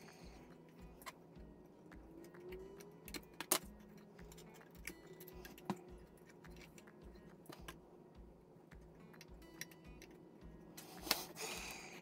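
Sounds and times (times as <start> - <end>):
quiet background music: 0.0 - 12.0
tweezers clicking and tapping: 0.0 - 12.0.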